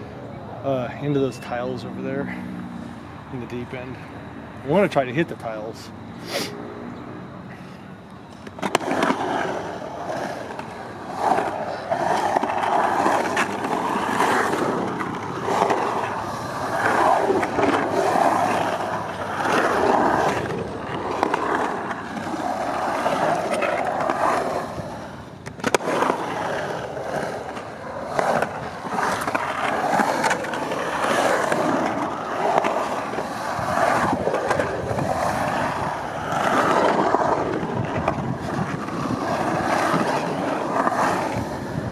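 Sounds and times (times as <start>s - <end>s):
skateboard wheels rolling on concrete: 0.0s - 41.9s
skateboard clack: 8.0s - 41.9s.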